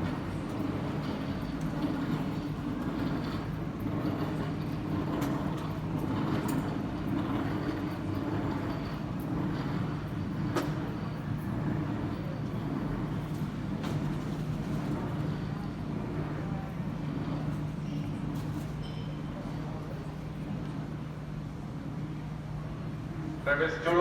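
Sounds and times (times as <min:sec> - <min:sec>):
faint murmur of activity: 0:00.0 - 0:24.0
steady low hum: 0:00.0 - 0:24.0.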